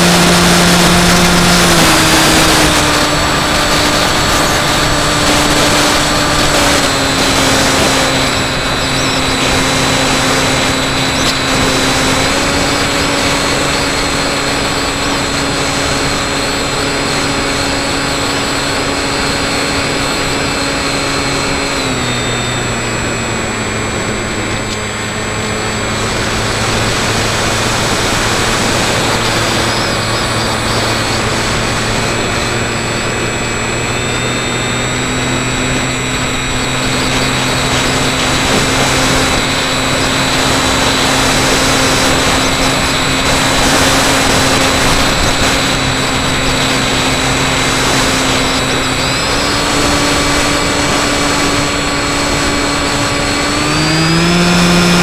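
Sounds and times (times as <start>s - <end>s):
electric motor whine: 0.0s - 55.0s
rushing wind noise: 0.0s - 55.0s.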